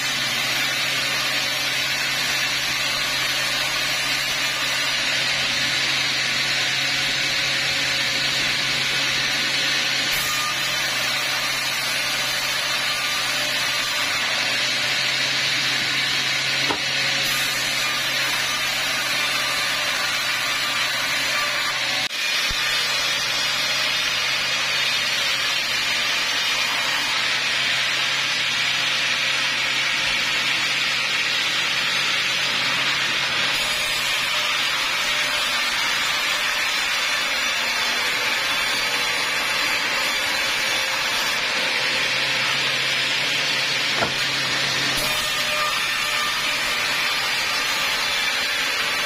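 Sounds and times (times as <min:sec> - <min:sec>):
band saw cutting log: 0:00.0 - 0:49.0.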